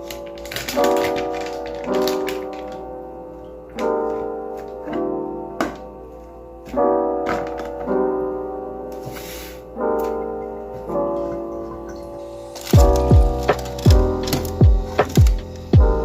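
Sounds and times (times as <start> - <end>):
lo-fi piano music: 0.0 - 16.0.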